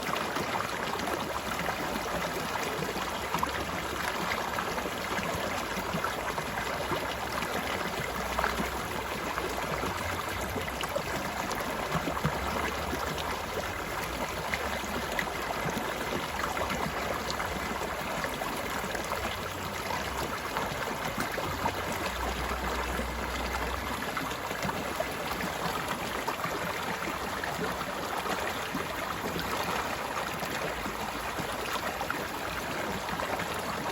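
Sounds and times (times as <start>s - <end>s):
stream water babbling: 0.0s - 33.9s.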